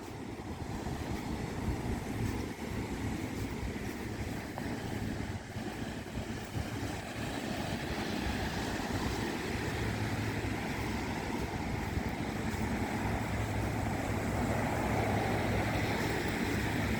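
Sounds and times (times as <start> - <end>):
sea rushing: 0.0 - 16.9
wind buffeting microphone: 0.0 - 16.9.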